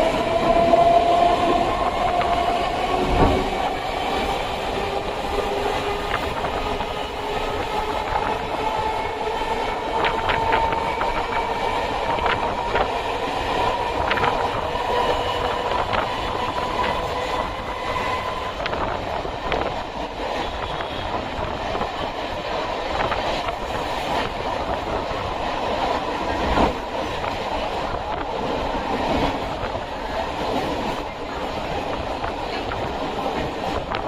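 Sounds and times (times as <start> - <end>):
electric train running: 0.0 - 34.0.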